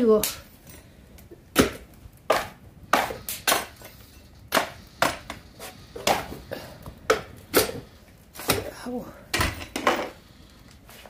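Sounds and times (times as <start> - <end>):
bamboo cracking and popping in fire: 0.0 - 9.4.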